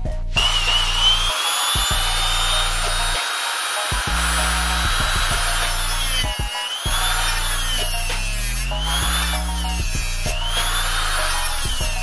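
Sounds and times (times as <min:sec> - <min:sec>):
hip-hop beat: 0:00.0 - 0:12.0
angle grinder cutting hose: 0:00.3 - 0:12.0.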